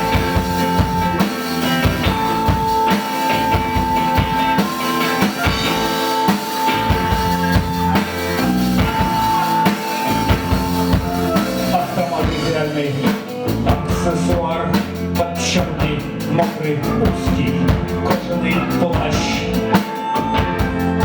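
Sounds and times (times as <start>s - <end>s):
bass and guitar: 0.0s - 21.0s
drum kit beat: 0.0s - 21.0s.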